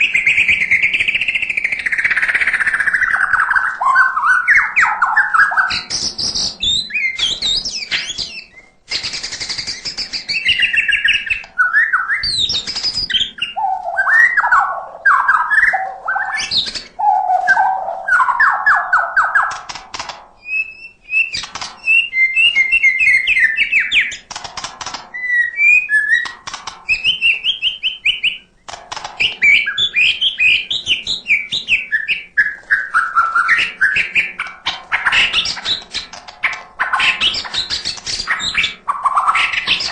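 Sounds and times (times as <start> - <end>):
bird singing trills and whistles: 0.0 - 19.7, 20.4 - 24.4, 25.1 - 39.9.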